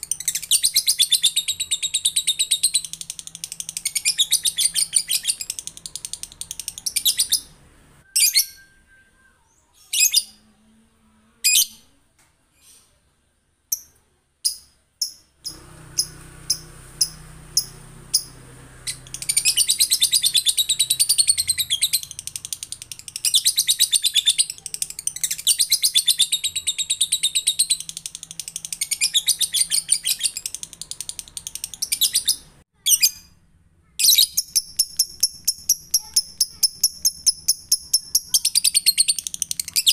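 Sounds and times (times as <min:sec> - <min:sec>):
lovebird chattering: 0:00.0 - 0:07.6, 0:13.7 - 0:33.2, 0:34.0 - 0:39.9
bird chirps: 0:00.0 - 0:10.6, 0:13.7 - 0:33.4, 0:34.0 - 0:39.9.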